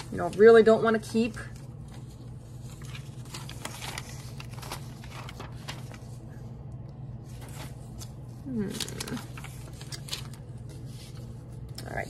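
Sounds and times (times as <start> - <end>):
paper rustling: 0.0 - 12.0
steady low hum: 0.0 - 12.0.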